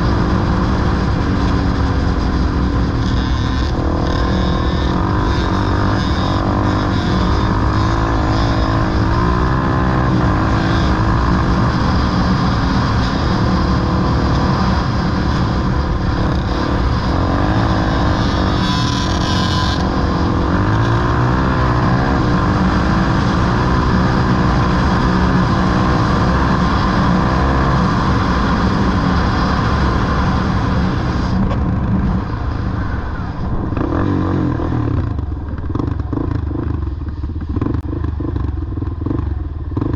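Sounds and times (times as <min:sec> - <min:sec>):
off-road vehicle engine revving: 0:00.0 - 0:36.8.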